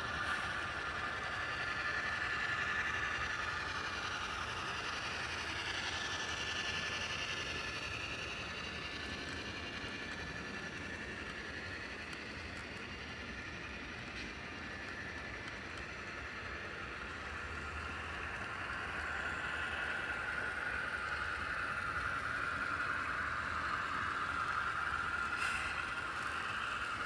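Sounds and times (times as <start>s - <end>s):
model train motor whirring: 0.0s - 27.0s.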